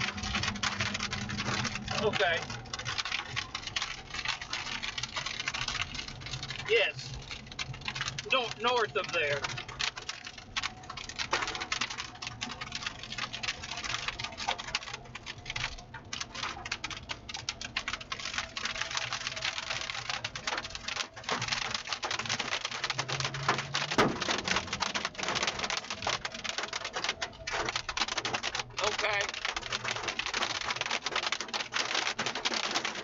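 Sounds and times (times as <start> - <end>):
rain on a vehicle roof: 0.0 - 33.0.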